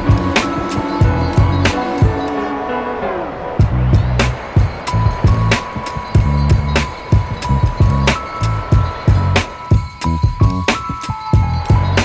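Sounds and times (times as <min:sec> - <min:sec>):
background music with drum beat: 0:00.0 - 0:02.4, 0:03.6 - 0:12.0.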